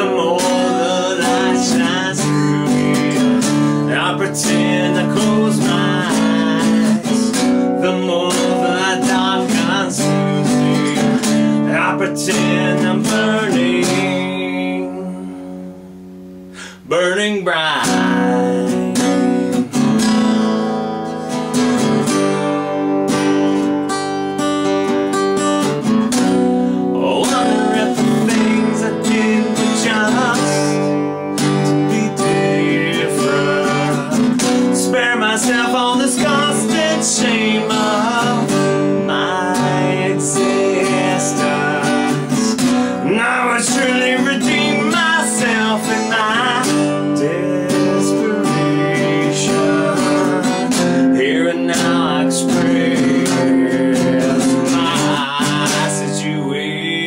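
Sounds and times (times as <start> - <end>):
man singing: 0.0 - 15.6, 16.6 - 20.2, 26.9 - 57.0
acoustic guitar strummed: 0.0 - 57.0.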